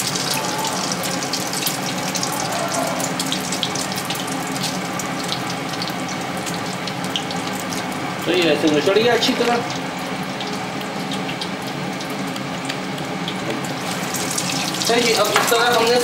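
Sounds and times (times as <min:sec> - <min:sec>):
chicken deep-frying in oil: 0:00.0 - 0:16.0.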